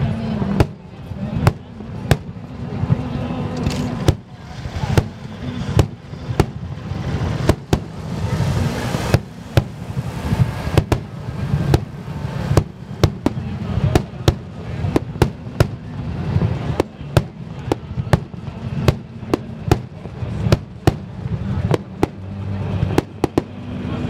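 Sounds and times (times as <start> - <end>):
fireworks bangs and cracks: 0.0 - 24.0
low rumble: 0.0 - 24.0.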